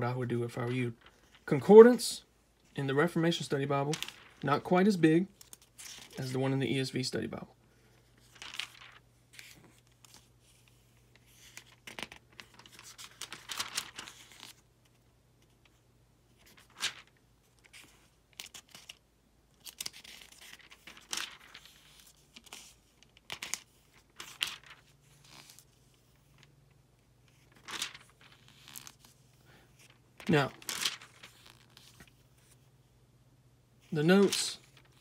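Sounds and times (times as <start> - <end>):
pages turning: 0.5 - 2.0, 2.6 - 6.4, 7.9 - 19.0, 19.6 - 26.6, 27.2 - 32.7, 33.8 - 35.0.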